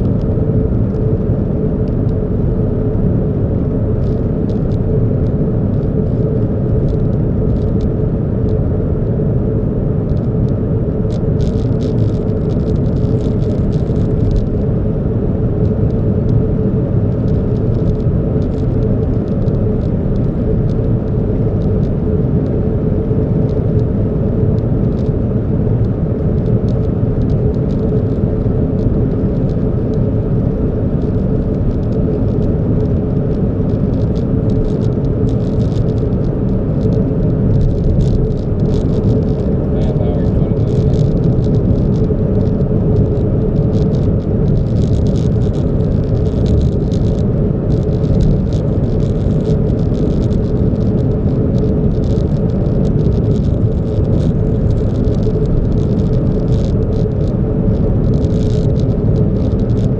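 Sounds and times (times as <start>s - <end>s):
car rumble: 0.0s - 59.9s.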